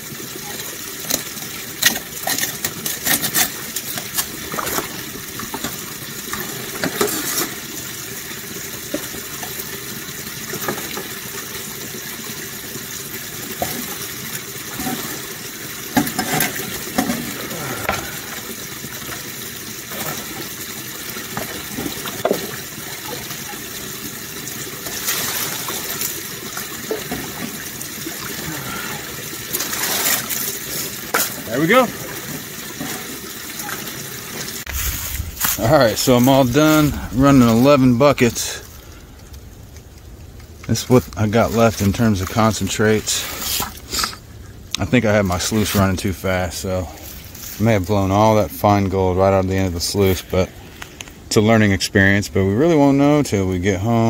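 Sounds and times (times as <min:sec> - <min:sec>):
water running and splashing: 0:00.0 - 0:54.0.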